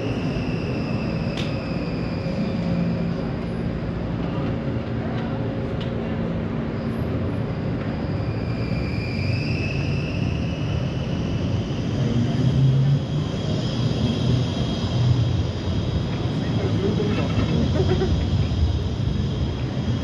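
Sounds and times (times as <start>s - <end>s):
street noise: 0.0s - 20.0s
tram motor whine: 0.0s - 20.0s.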